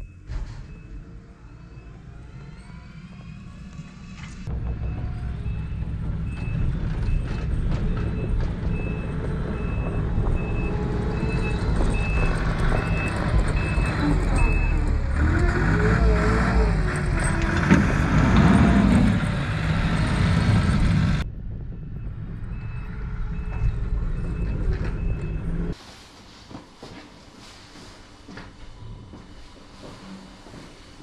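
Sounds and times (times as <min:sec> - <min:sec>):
wheel loader engine running: 0:00.3 - 0:25.8.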